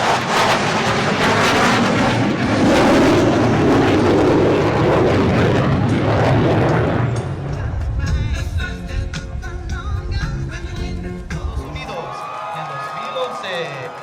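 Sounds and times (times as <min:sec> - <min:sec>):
airplane flying over: 0:00.0 - 0:12.0.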